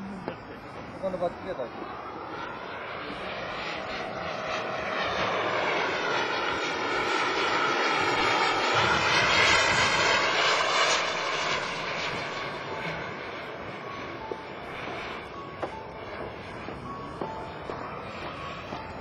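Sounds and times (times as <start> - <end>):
model jet engine whine: 0.0 - 19.0.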